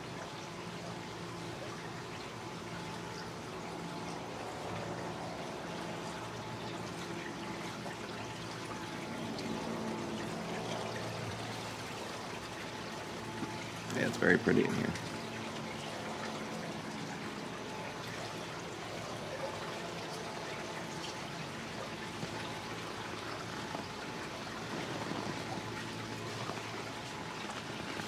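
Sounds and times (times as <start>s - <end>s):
faint even hum: 0.0s - 28.0s
water washing along boat hull: 0.0s - 28.0s.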